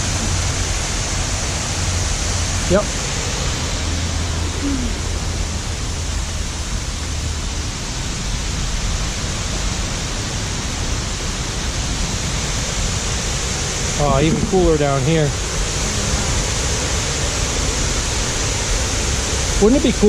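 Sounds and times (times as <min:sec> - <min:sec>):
falling water rushing: 0:00.0 - 0:20.0.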